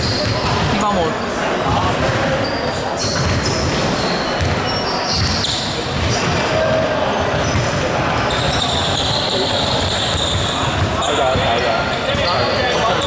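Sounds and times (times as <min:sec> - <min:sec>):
basketball bouncing on court: 0:00.0 - 0:00.8, 0:03.1 - 0:13.0
sneakers squeaking on floor: 0:00.0 - 0:13.0
voices of players and spectators: 0:00.0 - 0:13.0.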